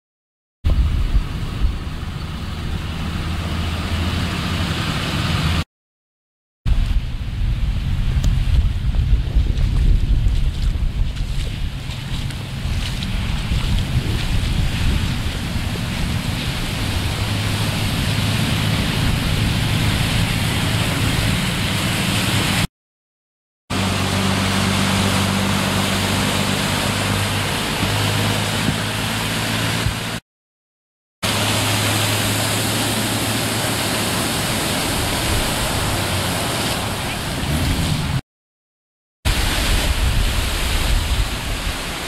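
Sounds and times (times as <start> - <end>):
low engine hum: 0.7 - 5.6, 6.7 - 22.7, 23.7 - 30.2, 31.2 - 38.2
vehicles driving through floodwater: 0.7 - 5.6, 9.5 - 22.7, 23.7 - 30.2, 31.2 - 38.2, 39.3 - 42.0.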